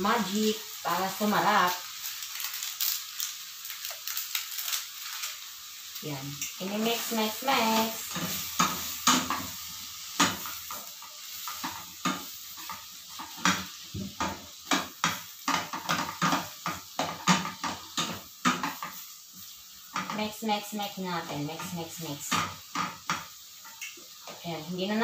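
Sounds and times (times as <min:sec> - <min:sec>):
faint sizzle: 0:00.0 - 0:25.0.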